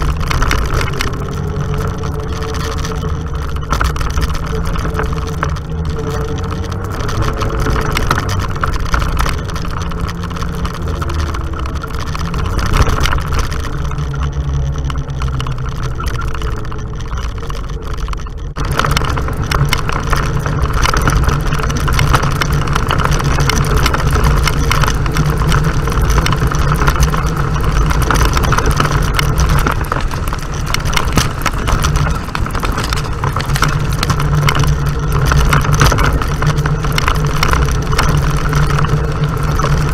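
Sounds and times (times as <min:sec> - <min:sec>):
off-road vehicle engine running: 0:00.0 - 0:39.9
road and wind noise: 0:00.0 - 0:39.9.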